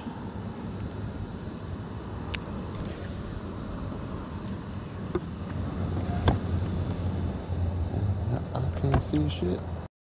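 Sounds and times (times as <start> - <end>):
low engine hum: 0.0 - 9.9.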